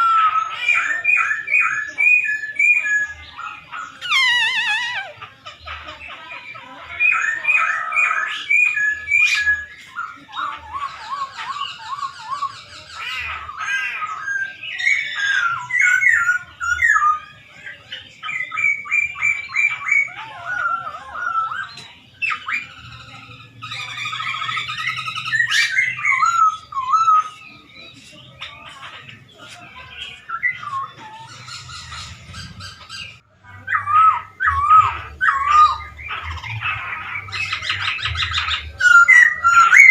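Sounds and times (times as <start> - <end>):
laughingthrush singing: 0.0 - 39.9.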